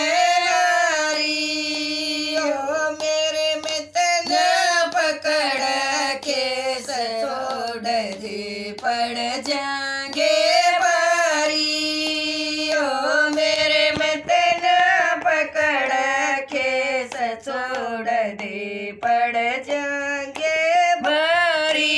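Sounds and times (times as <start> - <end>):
hand claps: 0.0 - 21.9
women singing together: 0.0 - 21.9.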